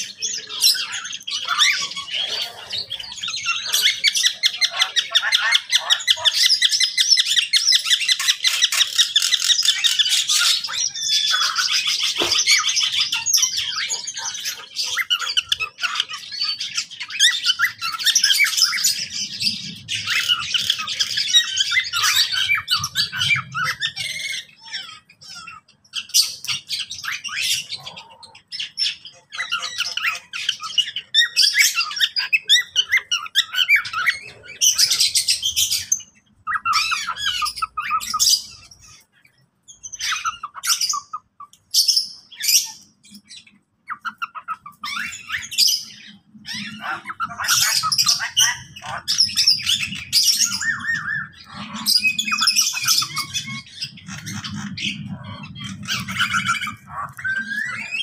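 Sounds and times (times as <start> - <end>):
birds calling and chirping: 0.0 - 58.0.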